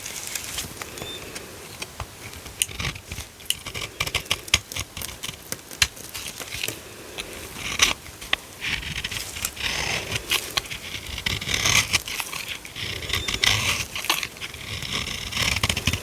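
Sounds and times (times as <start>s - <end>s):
dry soap crackling: 0.0s - 16.0s.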